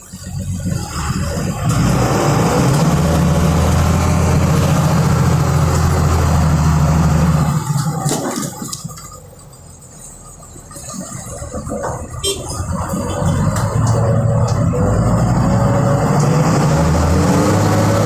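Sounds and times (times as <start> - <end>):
diesel bus engine running: 0.0 - 18.0.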